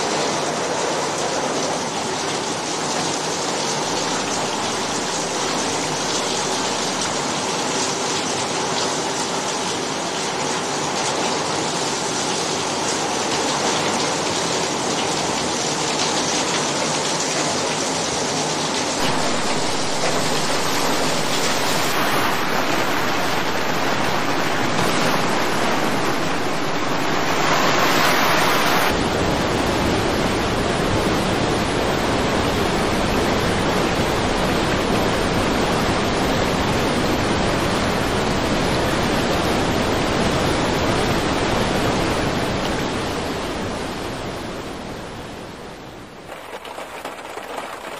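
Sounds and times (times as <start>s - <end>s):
rushing floodwater: 0.0s - 47.9s.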